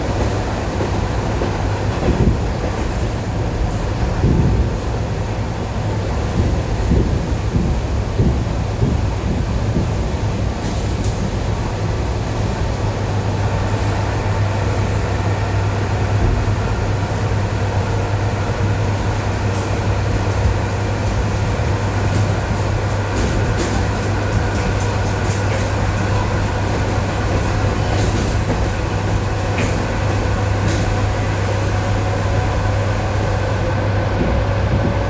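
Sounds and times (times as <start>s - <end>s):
train wheels clacking over rail joints: 0.0s - 13.4s, 16.2s - 35.0s
train rumble and motor hum: 0.0s - 35.0s.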